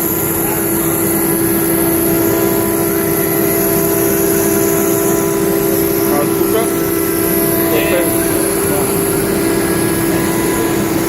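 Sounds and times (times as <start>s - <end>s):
high-pitched spindle motor whine: 0.0s - 11.0s.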